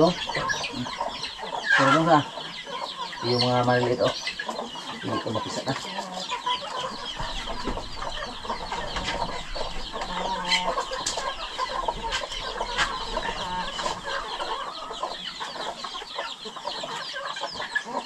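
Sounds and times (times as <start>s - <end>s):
chicks peeping: 0.0s - 18.0s
hens clucking: 0.0s - 18.0s.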